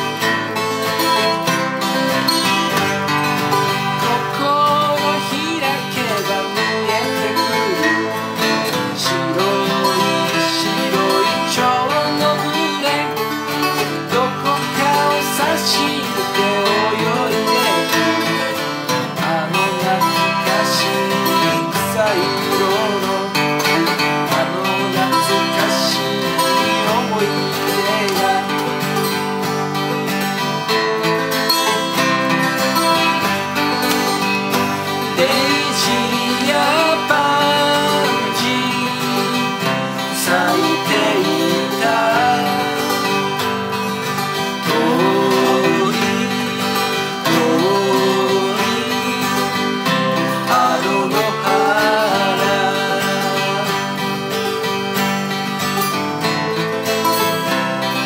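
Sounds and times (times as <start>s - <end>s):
man singing: 0.0s - 54.9s
acoustic guitars strummed and picked: 0.0s - 58.0s.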